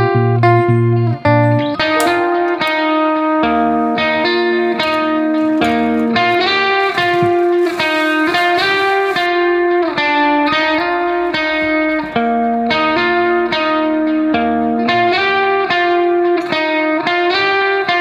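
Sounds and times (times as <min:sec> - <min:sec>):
plucked guitar music: 0:00.0 - 0:18.0.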